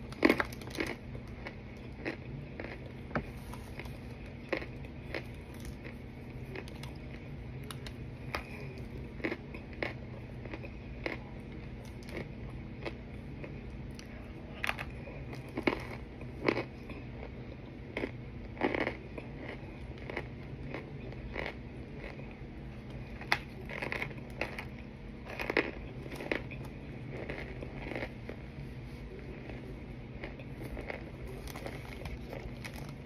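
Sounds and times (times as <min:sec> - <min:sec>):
crunchy chewing: 0:00.0 - 0:33.0.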